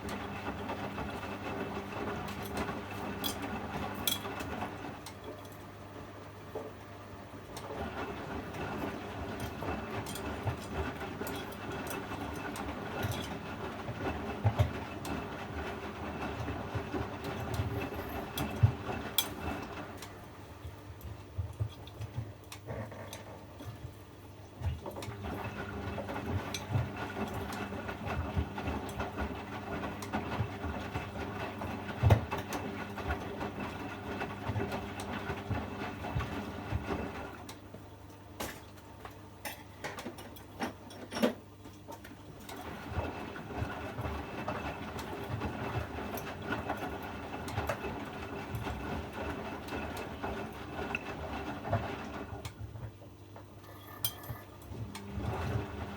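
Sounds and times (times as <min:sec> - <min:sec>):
washing machine motor humming: 0:00.0 - 0:55.9.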